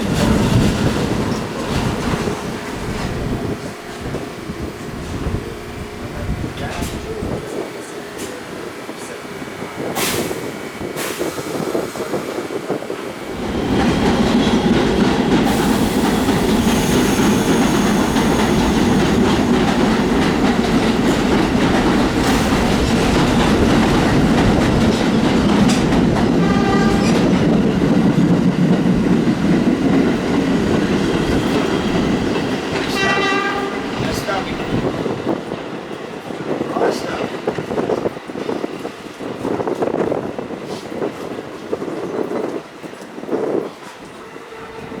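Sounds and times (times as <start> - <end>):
train wheels clacking over rails: 0.0 - 45.0.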